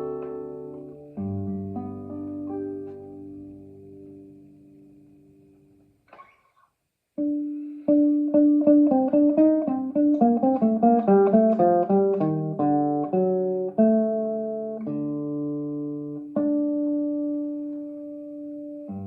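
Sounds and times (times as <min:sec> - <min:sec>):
classical guitar: 0:00.0 - 0:19.0.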